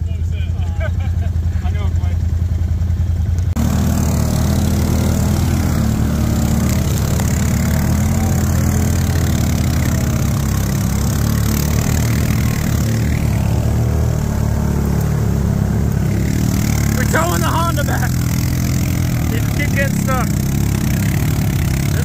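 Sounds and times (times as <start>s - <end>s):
atv engine running under load: 0.0s - 22.0s.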